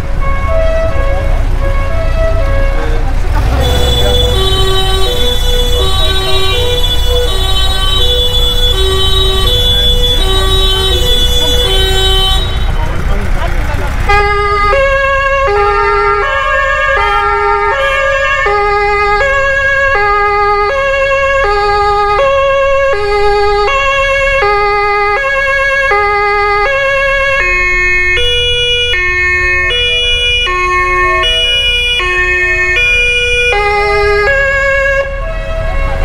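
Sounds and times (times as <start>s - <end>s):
low vehicle rumble: 0.0s - 36.0s
two-tone emergency vehicle horn: 0.1s - 13.0s, 14.0s - 36.0s.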